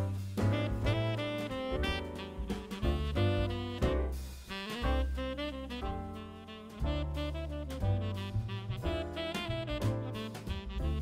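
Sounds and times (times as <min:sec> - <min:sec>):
bass line: 0:00.0 - 0:11.0
drum kit: 0:00.0 - 0:11.0
saxophone melody: 0:00.4 - 0:11.0.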